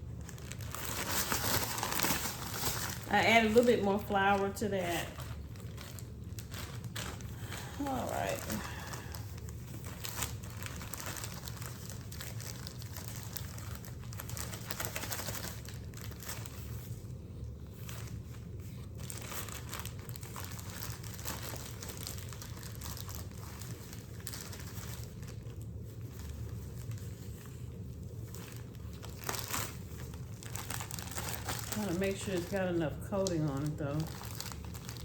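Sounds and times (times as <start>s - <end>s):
plastic bag crinkling: 0.0s - 35.0s.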